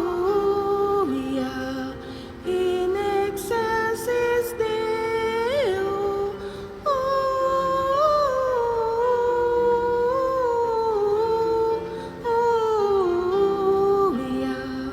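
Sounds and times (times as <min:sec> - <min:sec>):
soft sustained backing chords: 0:00.0 - 0:14.9.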